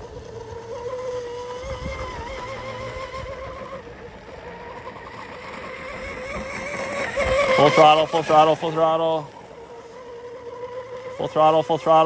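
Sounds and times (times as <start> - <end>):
model boat motor whine: 0.0 - 12.0.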